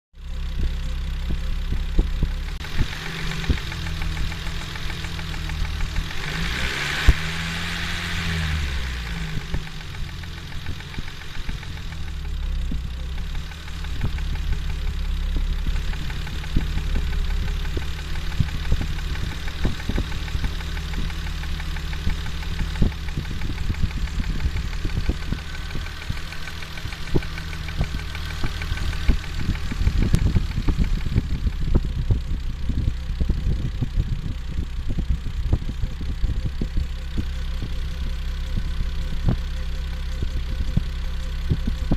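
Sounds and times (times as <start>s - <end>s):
car engine idling and revving: 0.1s - 41.9s
engine knocking: 0.2s - 41.9s.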